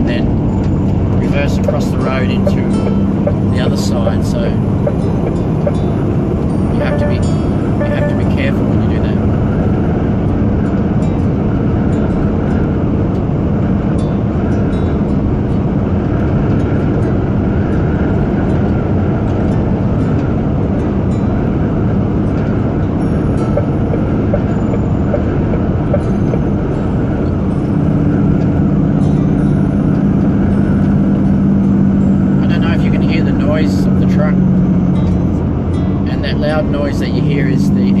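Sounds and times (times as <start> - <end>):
deeper engine hum: 0.0 - 38.0
truck engine and tyre rumble: 0.0 - 38.0.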